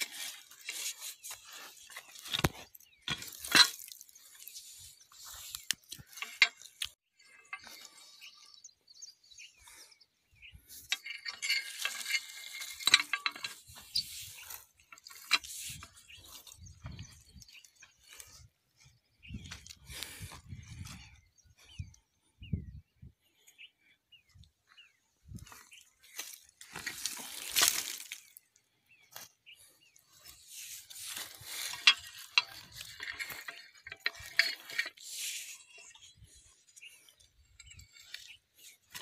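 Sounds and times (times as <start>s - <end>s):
dry twigs and leaves rustling: 0.0s - 8.6s, 10.6s - 21.2s, 25.2s - 39.0s.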